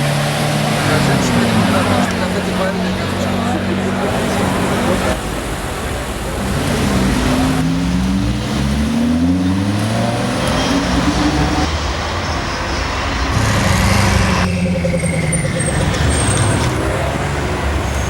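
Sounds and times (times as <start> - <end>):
car engine accelerating through gears: 0.0 - 5.2, 6.3 - 11.8, 13.2 - 18.0.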